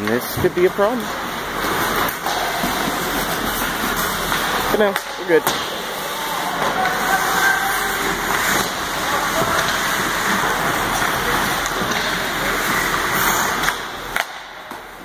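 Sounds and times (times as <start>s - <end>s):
ice hockey game rushing noise: 0.0s - 15.0s.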